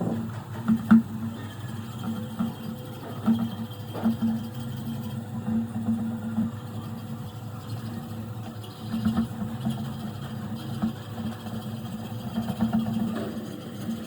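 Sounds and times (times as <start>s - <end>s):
electric machine humming: 0.0s - 14.0s.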